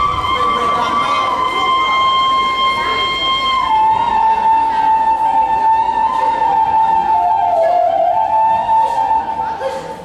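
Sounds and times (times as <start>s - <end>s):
flute playing long notes: 0.0s - 10.0s.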